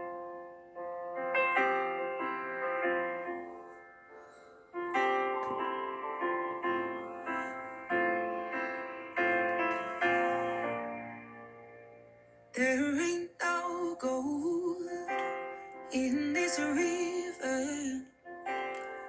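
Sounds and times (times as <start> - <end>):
piano chords ringing: 0.0 - 19.0.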